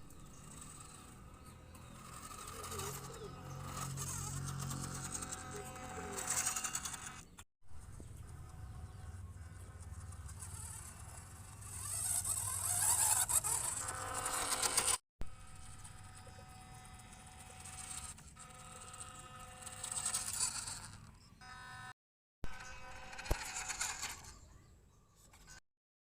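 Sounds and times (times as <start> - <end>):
small electric motor whirring: 0.0 - 24.7.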